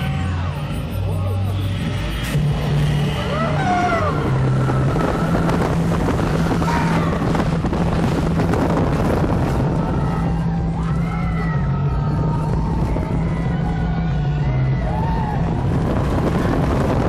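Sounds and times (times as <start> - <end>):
roller coaster rumble: 0.0 - 17.0
wind rushing over microphone: 3.0 - 17.0.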